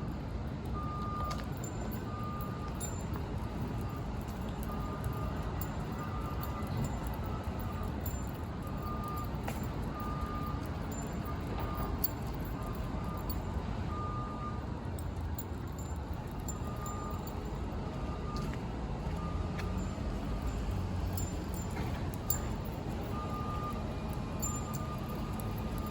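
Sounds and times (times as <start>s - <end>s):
low rumble of traffic: 0.0s - 25.9s.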